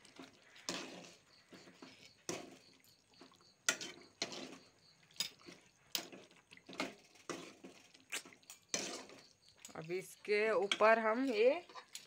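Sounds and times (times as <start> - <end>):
metal spoon scraping metal pot: 0.0 - 12.0
wet squelching of gravy: 0.0 - 12.0.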